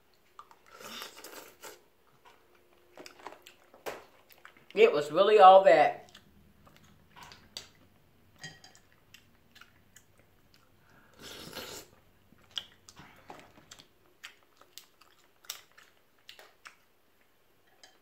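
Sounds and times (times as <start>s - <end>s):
chewing and lip-smacking: 0.1s - 4.8s, 6.0s - 8.0s, 8.6s - 17.4s.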